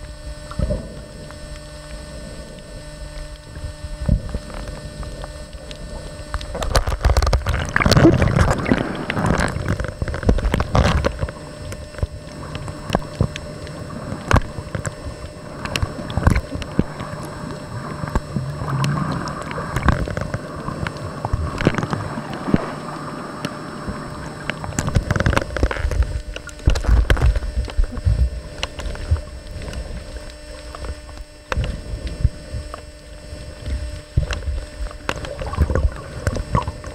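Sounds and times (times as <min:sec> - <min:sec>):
underwater bubbling water: 0:00.0 - 0:36.9.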